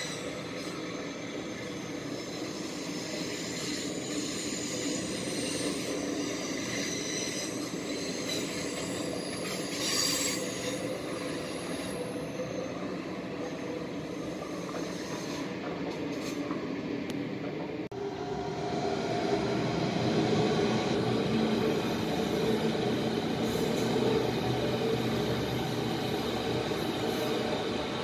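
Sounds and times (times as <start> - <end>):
electric train running with faint tone: 0.0 - 28.0
high-speed train rolling past: 0.0 - 28.0.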